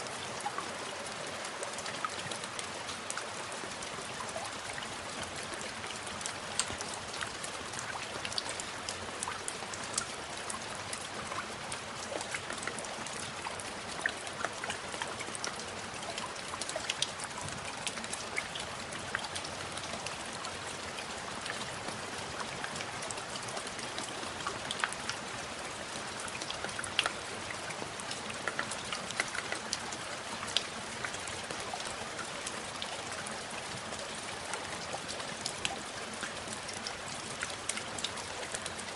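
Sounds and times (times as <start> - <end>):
raindrops ticking: 0.0 - 38.9
steady rain hiss: 0.0 - 38.9.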